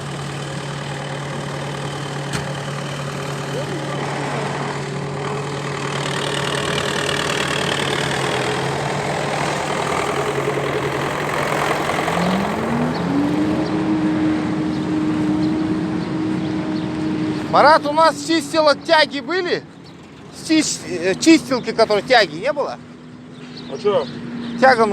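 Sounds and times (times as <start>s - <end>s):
tractor engine revving: 0.0s - 24.9s.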